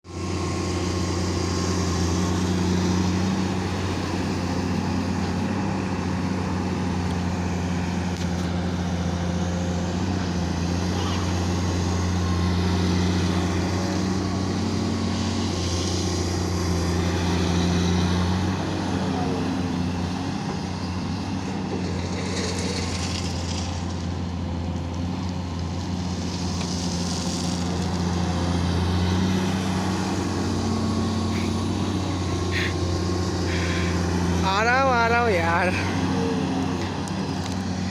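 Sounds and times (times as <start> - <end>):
excavator diesel engine running: 0.1 - 37.9.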